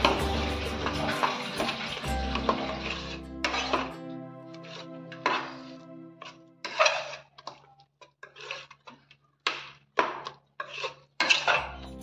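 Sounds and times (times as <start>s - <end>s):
metal spoon scraping a pot: 0.0s - 4.0s, 4.6s - 12.0s.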